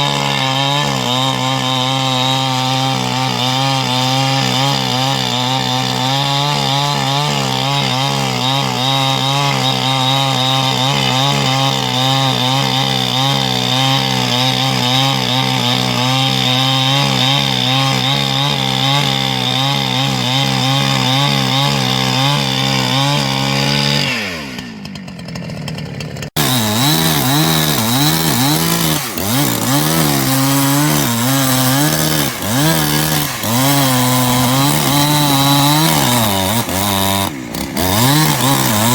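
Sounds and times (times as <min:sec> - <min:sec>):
chainsaw running at high revs: 0:00.0 - 0:38.9.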